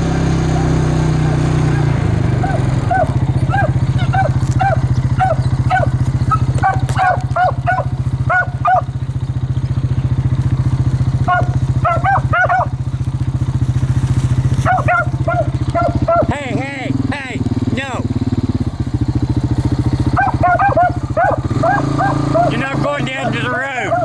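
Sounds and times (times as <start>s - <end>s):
hounds baying and yelping: 0.0s - 16.5s, 19.4s - 24.0s
low engine-like drone: 0.0s - 24.0s.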